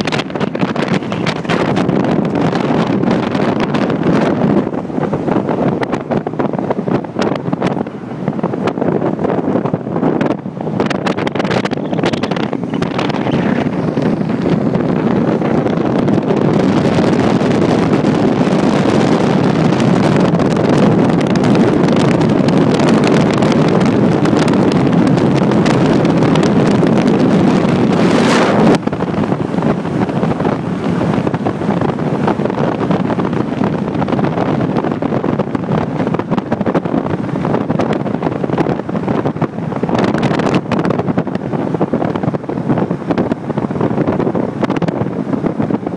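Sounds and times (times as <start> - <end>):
road and traffic noise: 0.0 - 45.9
wind rushing over microphone: 0.0 - 45.9.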